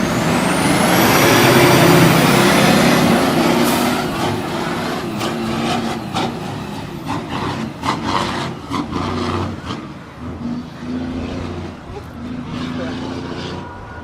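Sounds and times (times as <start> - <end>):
heavy vehicle engine running: 0.0 - 14.0.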